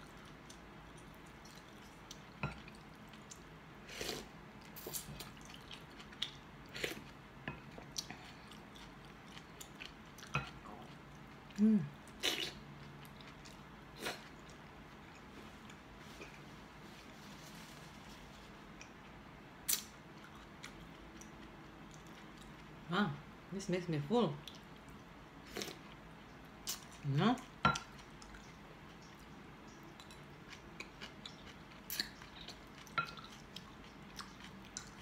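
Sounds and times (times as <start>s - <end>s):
soft chewing: 0.0s - 22.9s, 24.3s - 35.0s.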